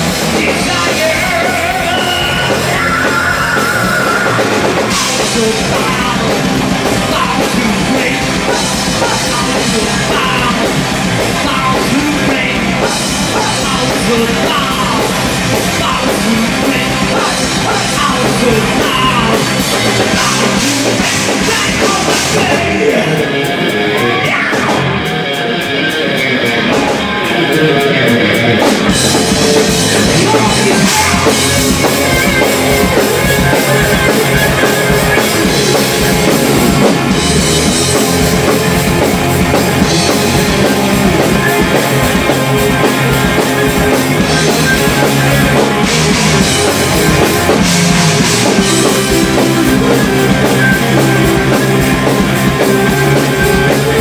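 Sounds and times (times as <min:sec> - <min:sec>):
live heavy metal band: 0:00.0 - 0:54.0.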